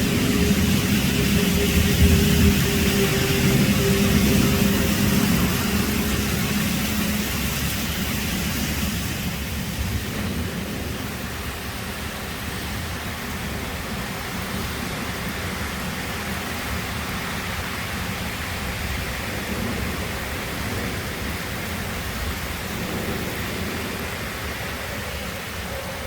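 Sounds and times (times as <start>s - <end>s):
heavy rain: 0.0s - 26.0s
vehicle engine hum: 0.0s - 26.0s
wind: 0.0s - 26.0s.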